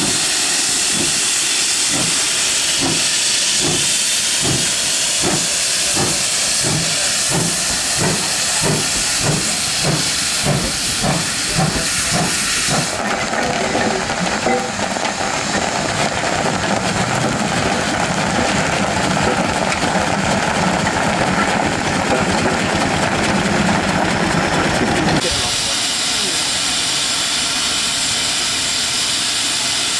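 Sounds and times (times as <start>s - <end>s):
steam hissing: 0.0s - 29.9s
steam locomotive chuffing: 0.0s - 29.9s.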